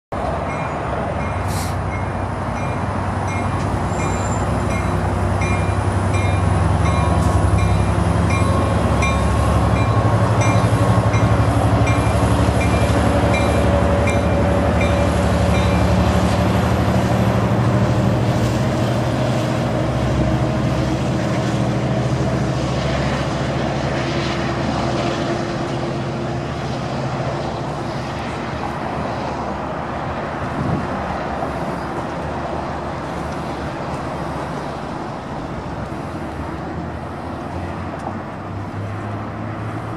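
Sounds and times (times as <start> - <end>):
diesel locomotive engine drone: 0.1 - 39.9
train cars rolling by: 0.1 - 39.9.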